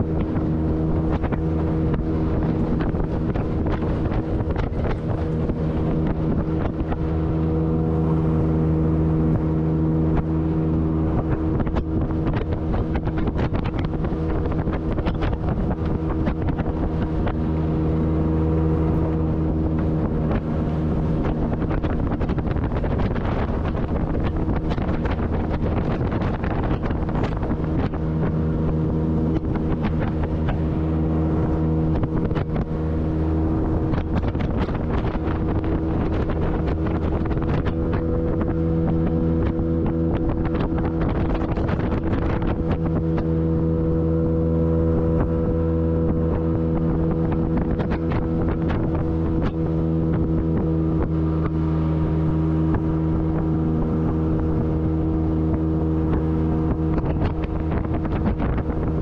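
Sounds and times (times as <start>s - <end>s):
outboard motor running: 0.0s - 59.0s
wind buffeting microphone: 0.0s - 59.0s.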